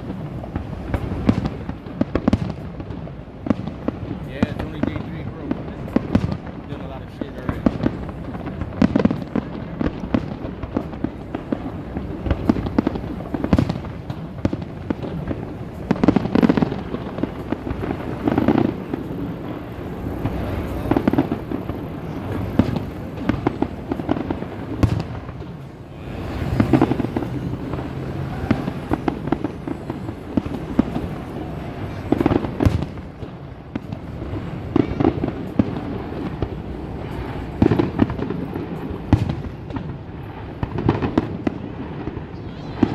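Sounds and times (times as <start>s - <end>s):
fireworks bangs and crackling: 0.0s - 42.9s
heavy firework booms: 0.0s - 42.9s.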